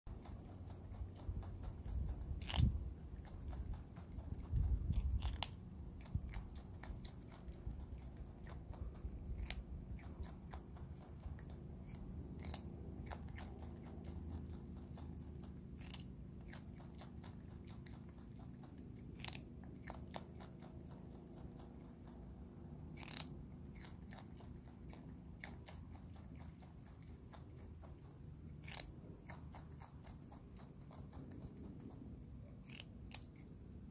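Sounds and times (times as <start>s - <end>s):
possum crunching carrot: 0.0s - 33.9s.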